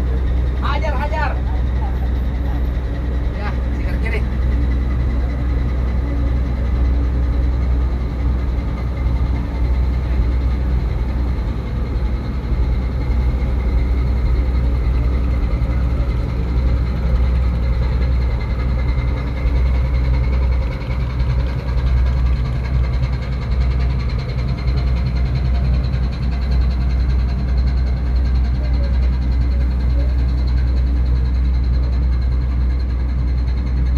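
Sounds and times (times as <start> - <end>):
diesel machinery drone: 0.0 - 33.9
thin steady whine: 0.0 - 33.9.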